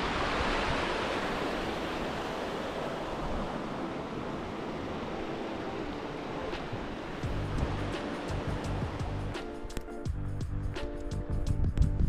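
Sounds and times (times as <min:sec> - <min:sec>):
water rushing over stones: 0:00.0 - 0:09.8.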